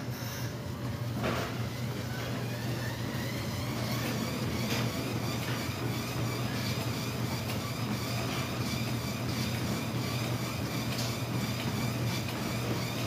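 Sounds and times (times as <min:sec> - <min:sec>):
treadmill motor and belt hum: 0:00.0 - 0:13.0
footfalls on treadmill deck: 0:01.1 - 0:13.0.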